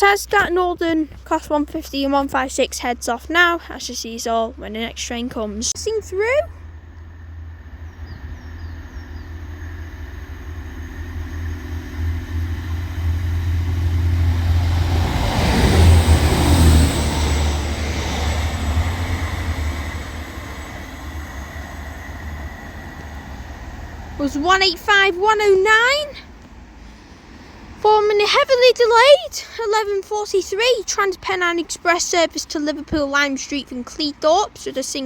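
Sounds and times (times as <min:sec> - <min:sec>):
diesel train engine rumble: 0:00.0 - 0:35.0
train wheel noise: 0:00.0 - 0:35.0.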